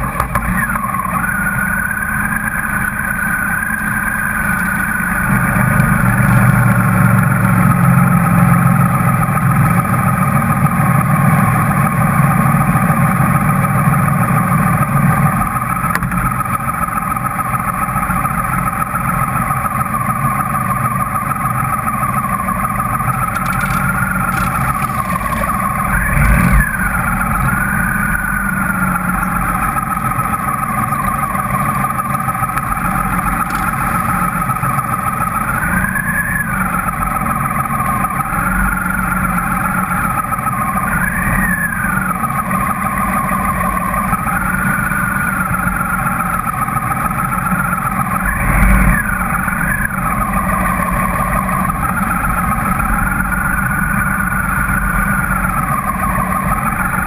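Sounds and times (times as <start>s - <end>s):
engines revving: 0.0s - 57.0s
motorcycle engines rumbling: 0.0s - 57.0s.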